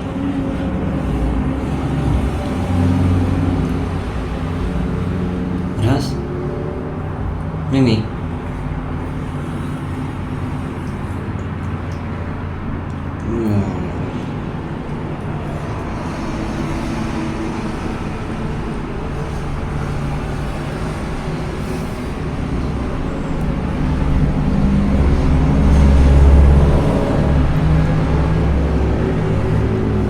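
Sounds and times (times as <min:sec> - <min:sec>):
motor vehicle engine rumble: 0:00.0 - 0:30.0.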